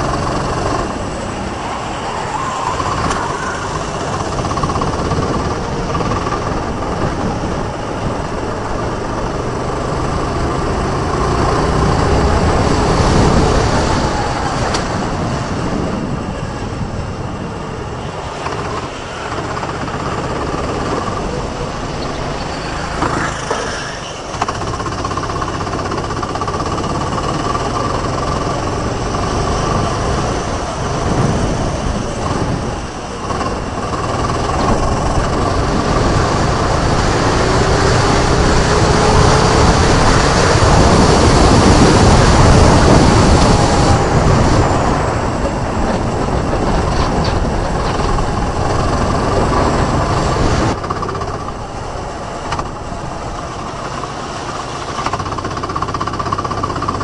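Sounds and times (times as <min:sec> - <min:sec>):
go-kart engine running hard: 0:00.0 - 0:57.0
track noise: 0:00.0 - 0:57.0
wind: 0:00.0 - 0:57.0.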